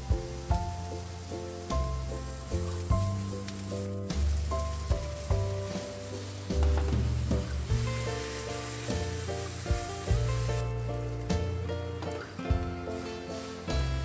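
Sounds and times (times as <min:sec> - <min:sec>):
background music: 0:00.0 - 0:14.0
vegetables sizzling in frying pan: 0:00.0 - 0:14.0.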